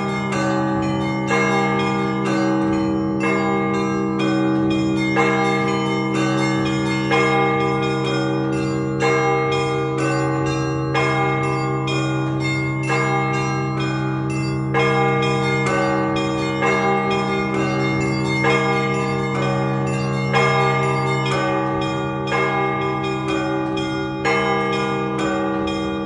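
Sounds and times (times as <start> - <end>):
deep bells humming: 0.0 - 26.0.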